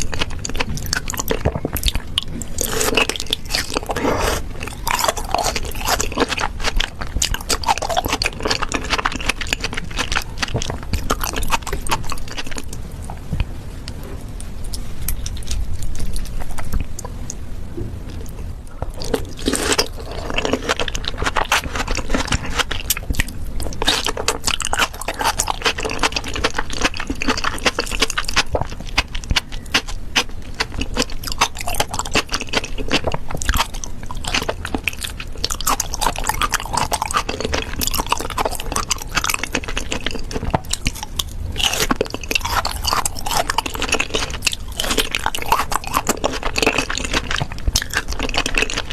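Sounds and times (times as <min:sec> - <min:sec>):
chewing and biting: 0:00.0 - 0:12.8, 0:18.1 - 0:48.9.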